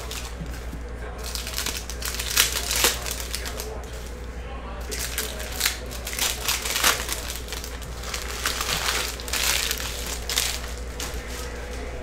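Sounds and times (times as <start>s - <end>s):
cards rustling and flicking: 0.0s - 4.2s, 4.9s - 11.9s.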